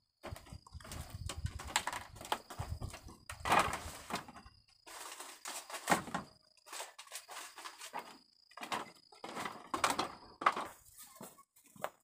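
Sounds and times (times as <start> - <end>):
bamboo creaking: 0.2 - 12.0
rustling: 0.3 - 12.0.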